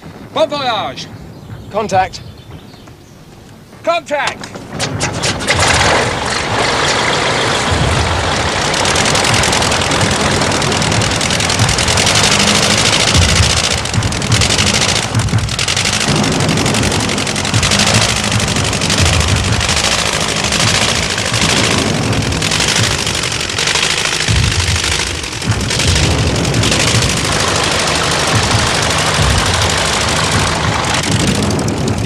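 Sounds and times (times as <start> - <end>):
biplane engine and propeller rattling: 0.0 - 32.0.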